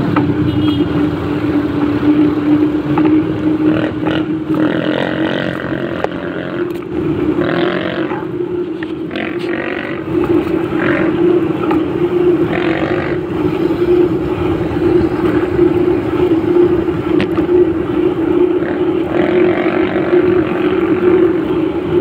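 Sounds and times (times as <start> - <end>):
road noise: 0.0 - 22.0
vehicle hum: 0.0 - 22.0.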